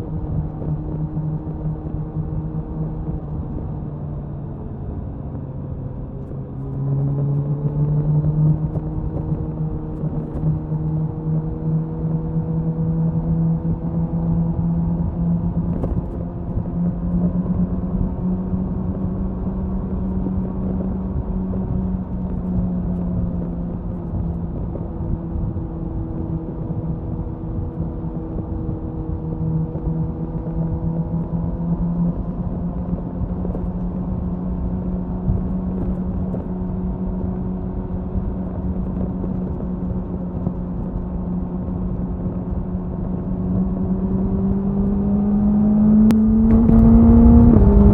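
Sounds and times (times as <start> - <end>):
heavy wind noise: 0.0 - 47.9
motorcycle exhaust at cruise: 0.0 - 47.9.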